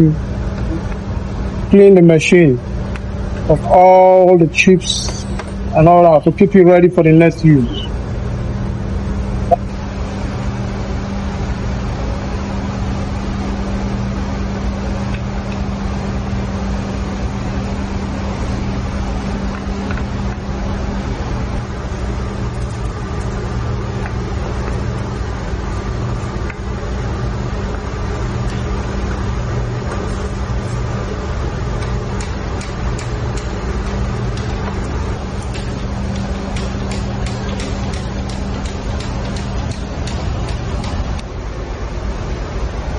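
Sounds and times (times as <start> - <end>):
engine-room machinery drone: 0.0 - 42.9.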